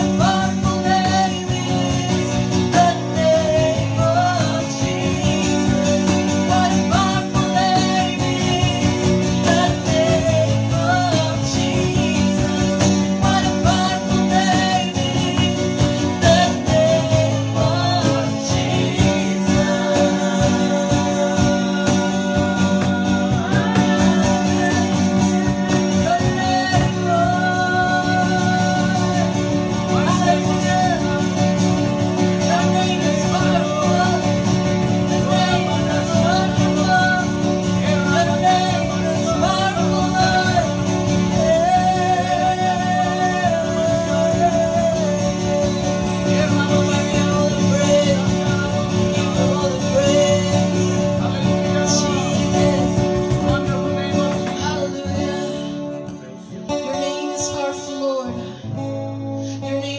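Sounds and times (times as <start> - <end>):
acoustic guitar: 0.0 - 59.9
man singing along: 0.0 - 59.9
woman singing into microphone: 0.0 - 59.9.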